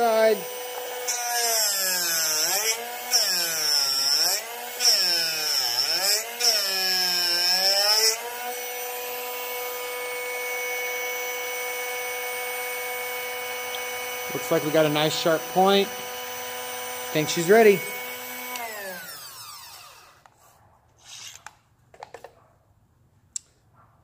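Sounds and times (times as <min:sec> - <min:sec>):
bit sharpener motor running: 0:00.0 - 0:20.2
drill bit grinding: 0:00.0 - 0:20.3.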